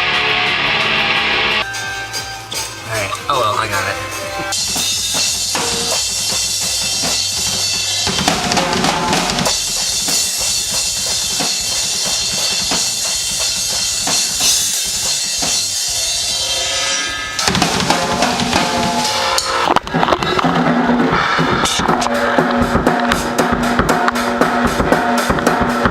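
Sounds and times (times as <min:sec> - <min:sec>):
music with drum beat: 0:00.0 - 0:25.9.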